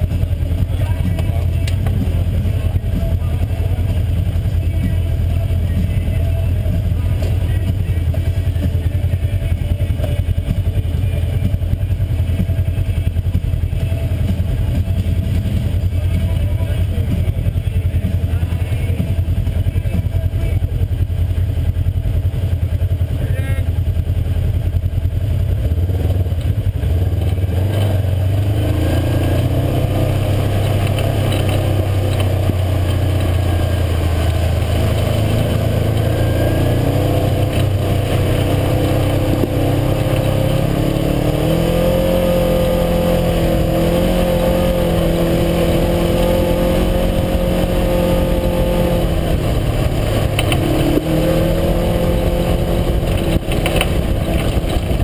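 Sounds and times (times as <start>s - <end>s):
vehicle engine driving on trail: 0.0s - 55.0s.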